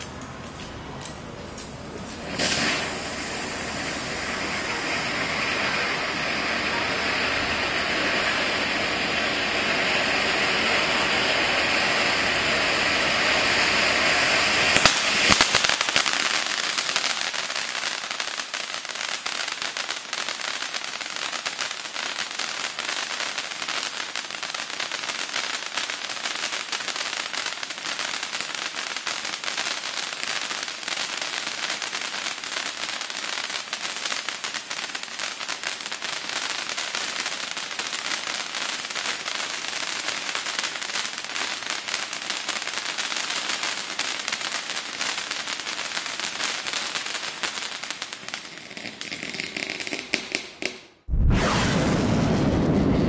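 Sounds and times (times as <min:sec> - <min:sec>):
firework fountain crackling: 0:00.0 - 0:53.0
loud firework cracks: 0:02.0 - 0:53.0.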